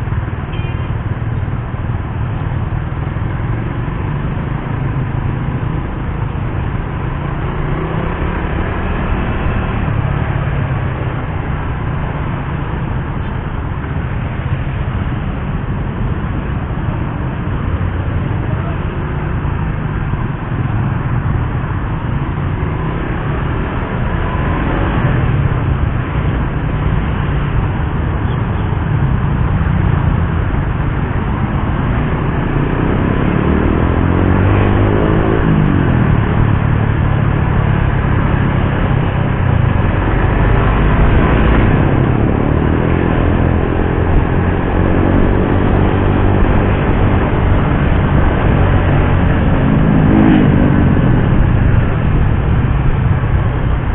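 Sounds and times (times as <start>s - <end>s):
road noise: 0.0s - 53.9s.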